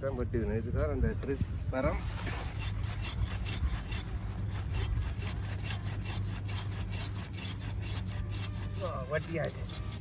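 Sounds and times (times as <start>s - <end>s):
hand saw cutting wood: 2.0s - 10.0s.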